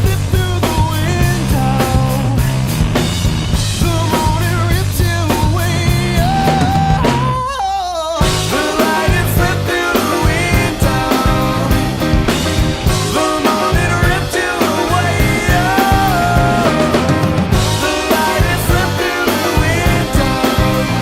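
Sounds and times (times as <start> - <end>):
rock band playing: 0.0 - 7.6, 8.2 - 21.0.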